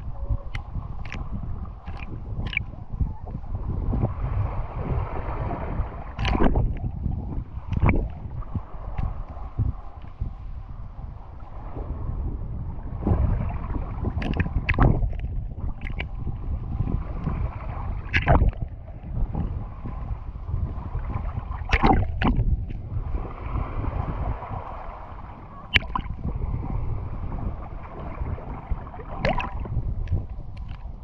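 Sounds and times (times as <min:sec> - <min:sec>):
muffled underwater rumble: 0:00.0 - 0:31.0
waves splashing over microphone: 0:00.0 - 0:31.0.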